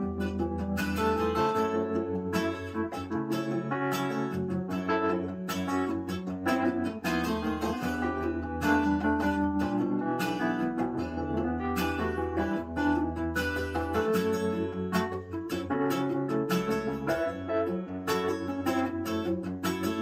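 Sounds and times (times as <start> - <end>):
deep bass line: 0.0 - 20.0
plucked acoustic guitar: 0.0 - 20.0.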